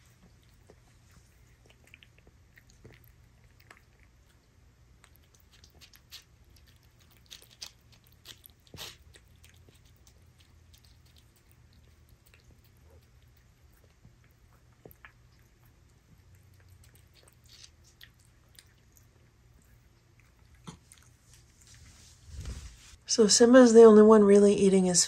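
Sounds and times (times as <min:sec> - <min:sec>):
cat chewing wet food: 0:00.0 - 0:21.7.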